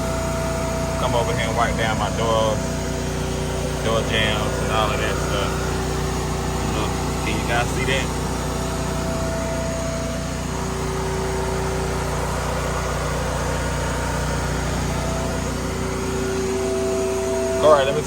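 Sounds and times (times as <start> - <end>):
motor droning: 0.0 - 18.0.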